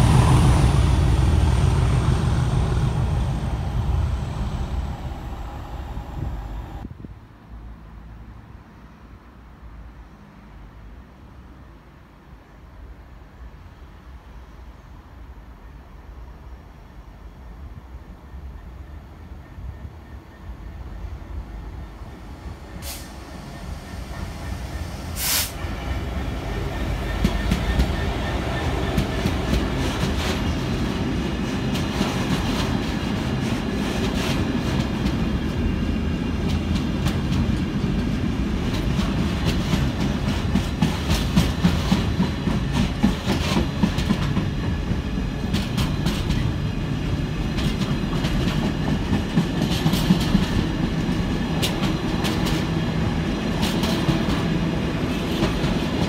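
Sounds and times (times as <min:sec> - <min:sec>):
freight train passing: 0:00.0 - 0:09.0, 0:10.2 - 0:56.0.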